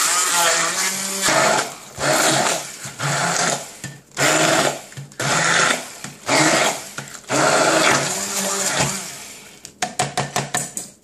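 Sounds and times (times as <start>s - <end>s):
stick blender motor bursts: 0.0s - 9.4s.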